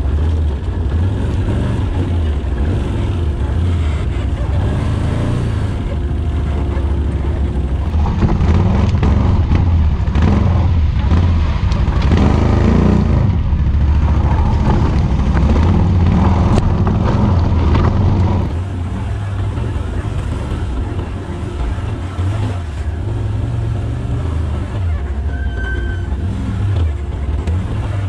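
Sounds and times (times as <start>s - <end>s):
atv engines running: 0.0s - 28.0s
knocks and rattles over rough ground: 0.0s - 28.0s.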